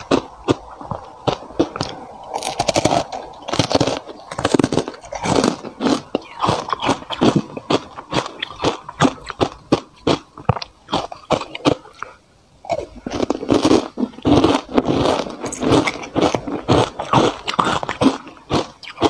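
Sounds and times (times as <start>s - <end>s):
ice crunching between teeth: 0.0s - 19.0s.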